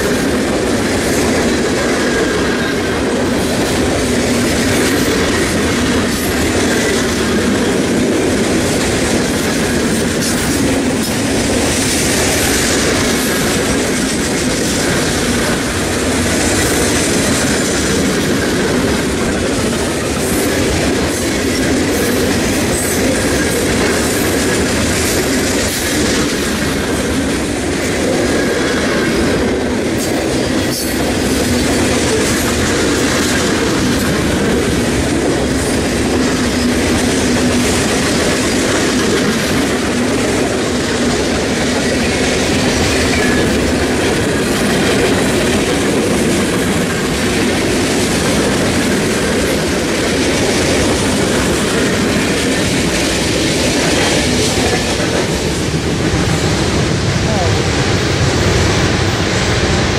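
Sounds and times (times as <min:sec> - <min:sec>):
steel train wheels on rails: 0:00.0 - 0:59.9.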